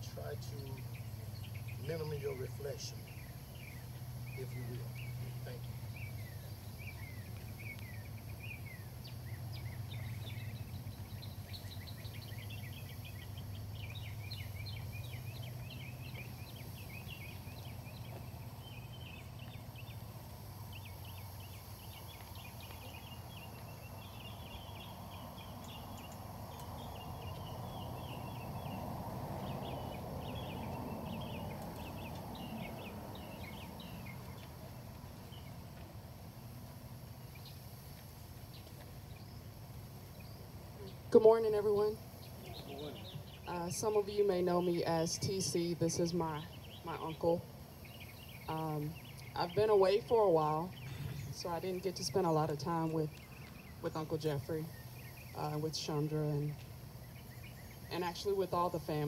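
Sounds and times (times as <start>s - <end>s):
low outdoor background hum: 0.0s - 59.0s
small birds chirping and trilling: 0.0s - 59.0s.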